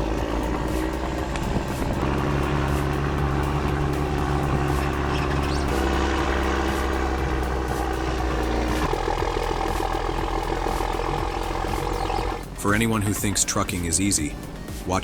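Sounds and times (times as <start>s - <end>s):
motor engine running: 0.0s - 15.0s.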